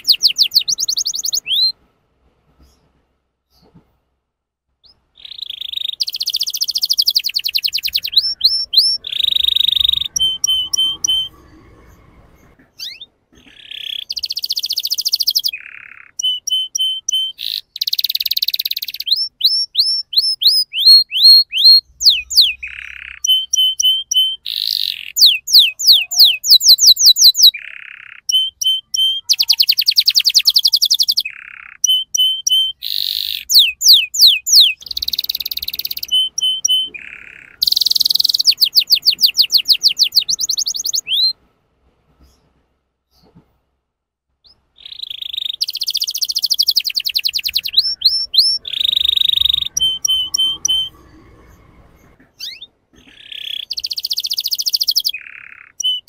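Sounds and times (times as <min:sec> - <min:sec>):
canary singing trills: 0:00.0 - 0:01.8, 0:04.8 - 0:41.4, 0:44.4 - 0:56.0.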